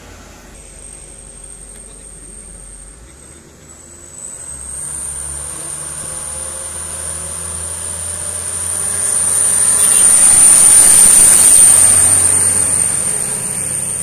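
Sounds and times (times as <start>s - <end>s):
truck diesel engine pulling uphill: 0.0s - 14.0s
high insect drone: 0.5s - 14.0s.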